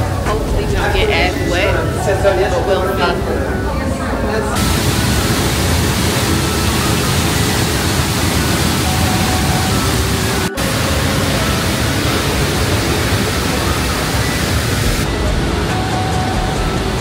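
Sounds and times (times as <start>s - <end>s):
faint music: 0.0s - 17.0s
loud steady rushing noise: 0.0s - 17.0s.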